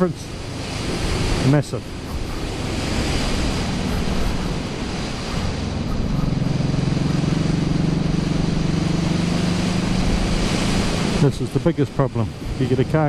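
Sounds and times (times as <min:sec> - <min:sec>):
motorcycle engine running: 0:00.0 - 0:11.2
wind rush on microphone: 0:00.0 - 0:11.4.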